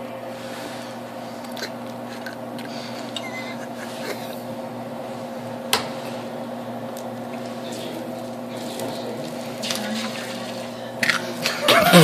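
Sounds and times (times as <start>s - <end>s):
oven motor humming: 0.0s - 12.0s.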